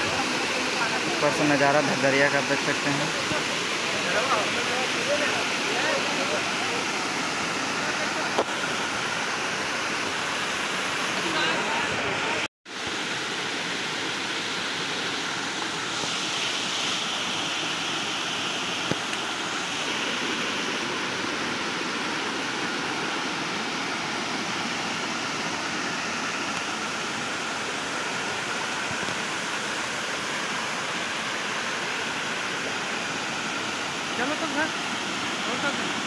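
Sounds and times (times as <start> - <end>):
waterfall rushing over rocks: 0.0 - 36.0.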